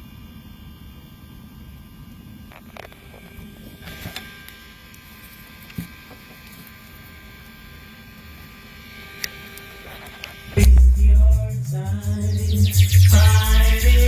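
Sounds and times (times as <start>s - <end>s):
faint steady tones: 0.0s - 14.0s
low hum and hiss: 0.0s - 14.0s.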